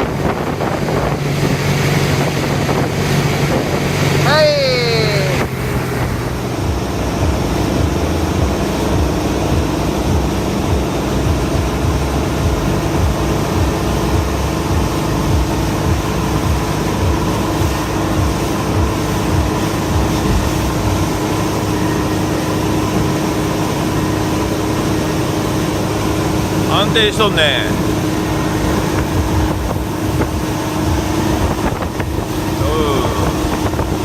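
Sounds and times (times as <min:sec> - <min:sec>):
wind buffeting microphone: 0:00.0 - 0:26.7, 0:27.7 - 0:34.0
boat engine running: 0:00.0 - 0:34.0.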